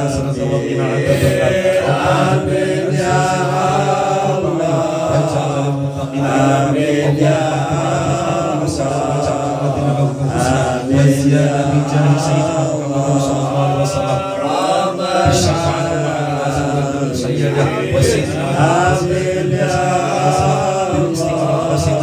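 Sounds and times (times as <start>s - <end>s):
men chanting devotional praise: 0.0s - 22.0s.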